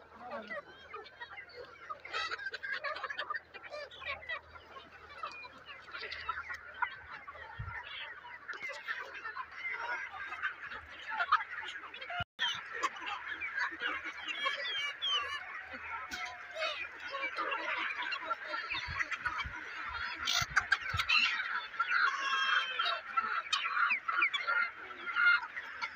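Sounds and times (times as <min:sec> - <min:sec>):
chickens clucking and squawking: 0:00.0 - 0:25.9.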